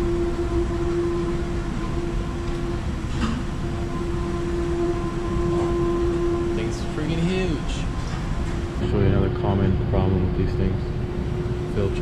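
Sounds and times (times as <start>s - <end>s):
low machinery rumble: 0.0s - 12.0s
machinery hum: 0.0s - 12.0s.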